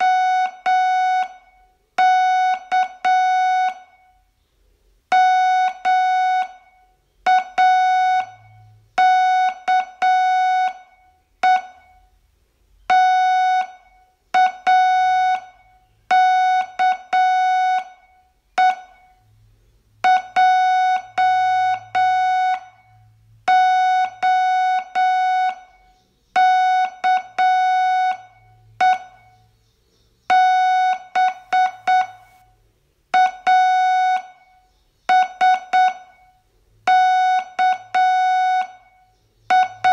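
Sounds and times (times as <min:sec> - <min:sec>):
morse code beeping tone: 0:00.0 - 0:04.2, 0:05.1 - 0:12.0, 0:12.9 - 0:19.2, 0:20.0 - 0:29.4, 0:30.3 - 0:32.5, 0:33.2 - 0:39.9.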